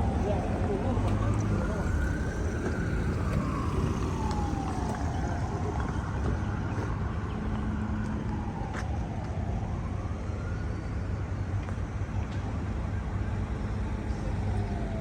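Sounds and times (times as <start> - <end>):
siren wailing: 0.0 - 11.5, 13.0 - 15.0
low traffic noise: 0.0 - 15.0.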